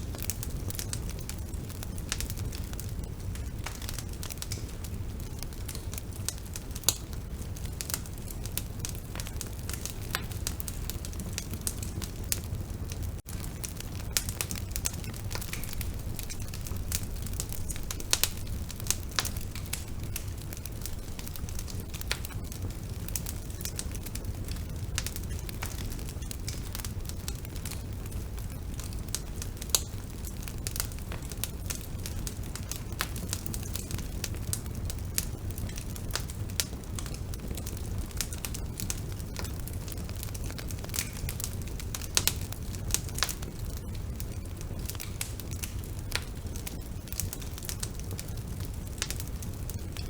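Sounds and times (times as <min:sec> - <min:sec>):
burning wood crackling and popping: 0:00.0 - 0:50.0
rumble of flames: 0:00.0 - 0:50.0.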